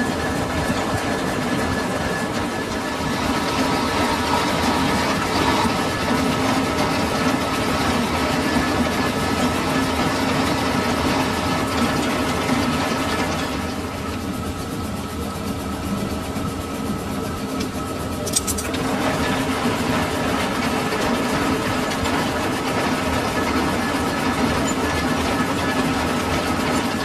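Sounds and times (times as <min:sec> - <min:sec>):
metal lathe running: 0:00.0 - 0:27.0.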